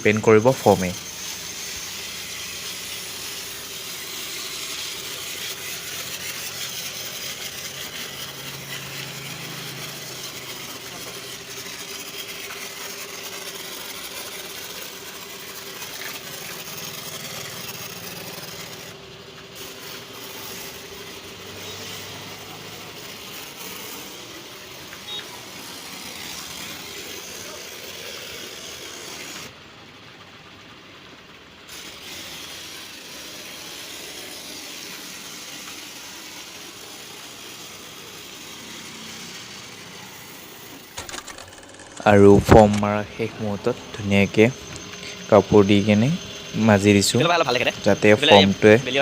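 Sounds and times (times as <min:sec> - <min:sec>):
pressure washer spray hissing: 0:00.0 - 0:29.6, 0:31.1 - 0:49.0
faint motor hum: 0:00.0 - 0:49.0.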